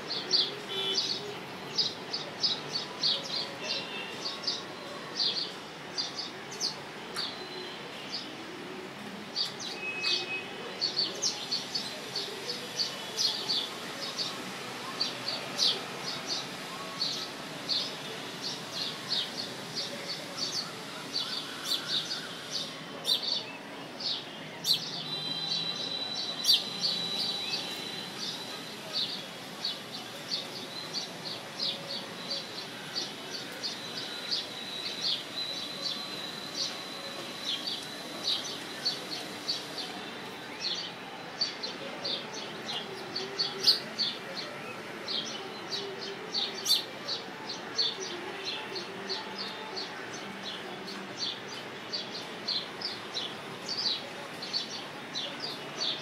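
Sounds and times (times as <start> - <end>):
faint background noise: 0.0 - 56.0
small birds chirping: 9.4 - 44.2, 45.1 - 56.0.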